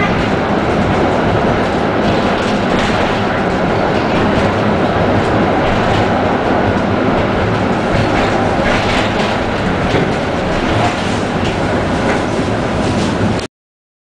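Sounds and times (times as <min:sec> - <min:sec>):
tram wheels rumbling on rails: 0:00.0 - 0:13.5.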